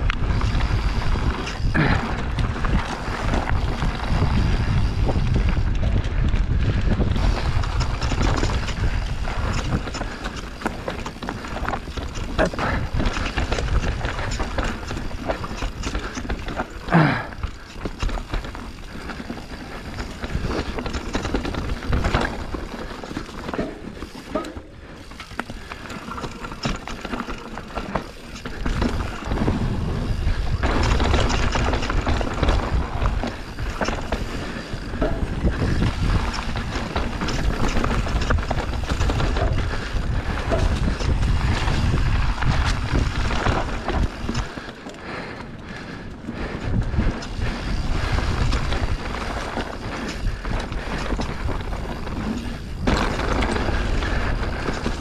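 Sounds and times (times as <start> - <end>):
bike chain and frame rattling: 0.0 - 55.0
bike tyres rolling over dirt: 0.0 - 55.0.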